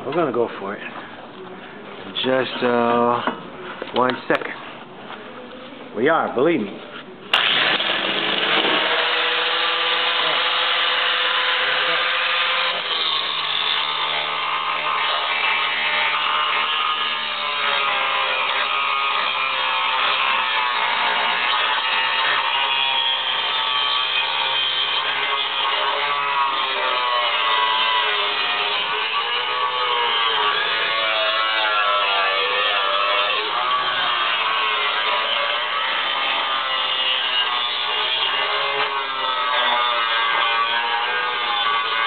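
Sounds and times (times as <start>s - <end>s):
power grinder grinding metal: 7.3s - 42.0s.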